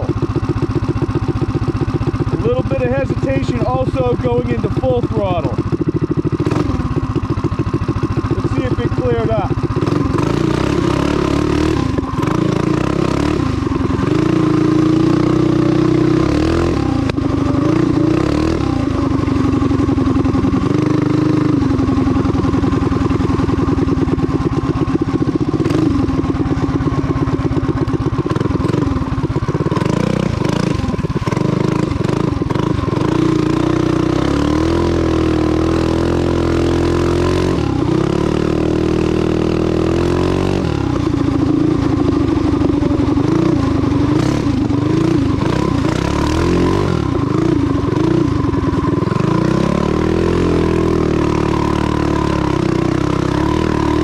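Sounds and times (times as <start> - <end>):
small engine revving: 2.4 - 7.0, 8.3 - 21.8, 25.2 - 26.2, 28.2 - 54.0.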